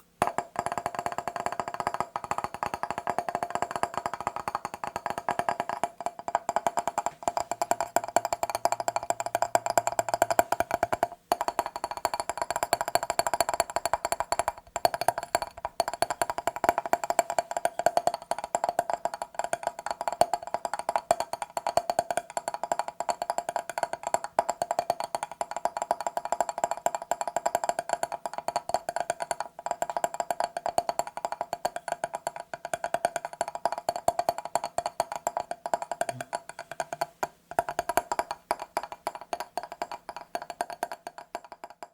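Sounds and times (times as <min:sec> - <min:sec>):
rapid tapping on glass: 0:00.0 - 0:41.9.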